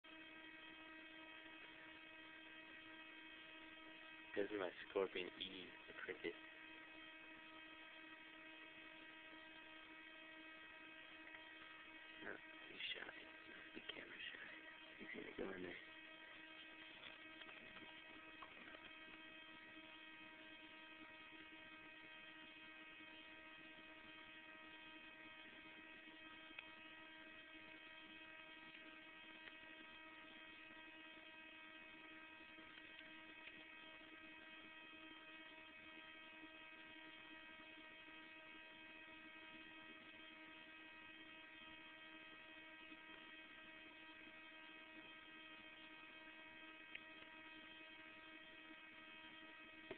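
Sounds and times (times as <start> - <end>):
faint electrical hum: 0.0 - 49.9.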